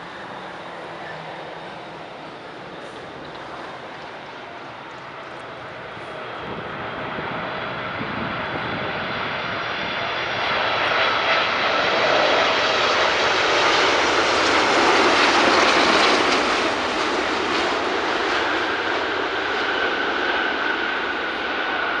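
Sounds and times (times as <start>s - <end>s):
jet aircraft rumble and whine: 0.0s - 22.0s.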